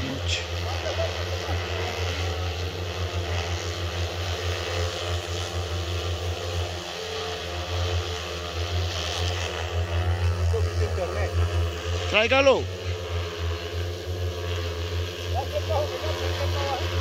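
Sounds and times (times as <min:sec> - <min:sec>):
drone rotors humming: 0:00.0 - 0:17.0.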